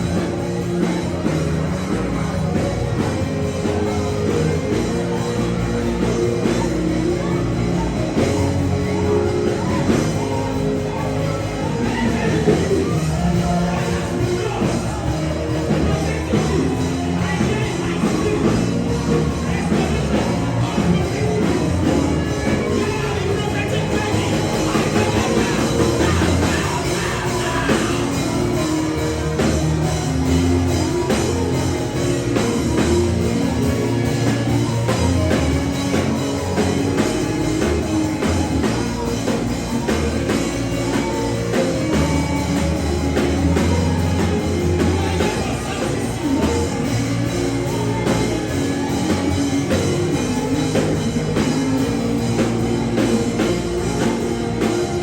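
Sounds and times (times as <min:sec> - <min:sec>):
band music with drums and guitar: 0:00.0 - 0:55.0.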